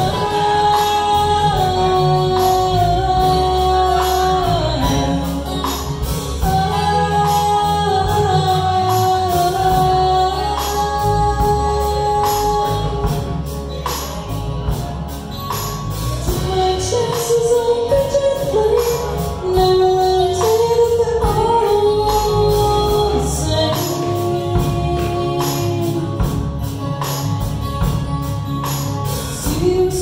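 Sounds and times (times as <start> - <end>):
acoustic guitar: 0.0 - 30.0
bass: 0.0 - 30.0
drum kit with cymbals: 0.0 - 30.0
electric guitar: 0.0 - 30.0
woman singing: 0.0 - 30.0.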